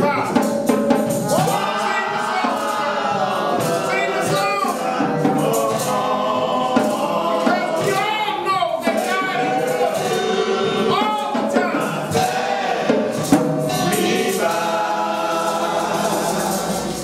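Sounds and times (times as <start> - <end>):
gospel choir and congregation singing: 0.0 - 17.0
instrumental backing: 0.0 - 17.0.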